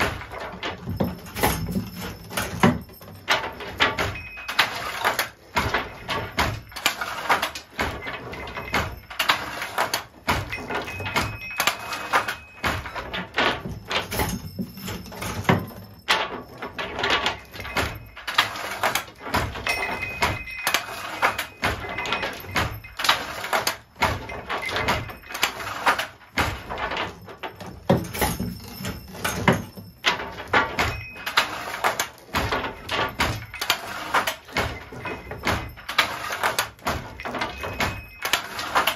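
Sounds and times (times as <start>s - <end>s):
wooden loom clacking: 0.0s - 38.9s.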